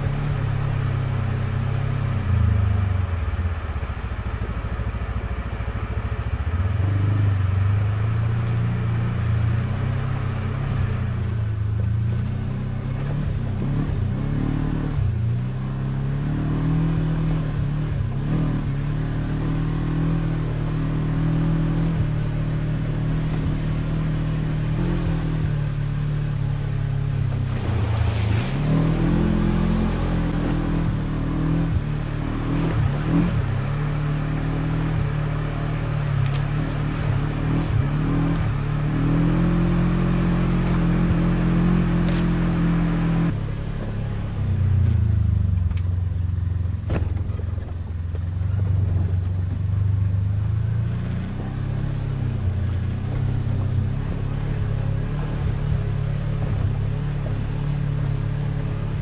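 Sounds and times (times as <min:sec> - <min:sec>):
vehicle engine running steadily: 0:00.0 - 0:59.0.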